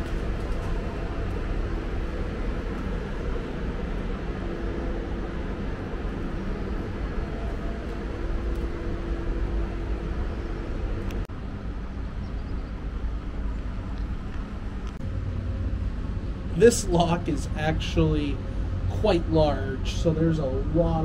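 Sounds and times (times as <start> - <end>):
faint steady hum: 0.0 - 21.0
ship engines rumbling: 0.0 - 21.0.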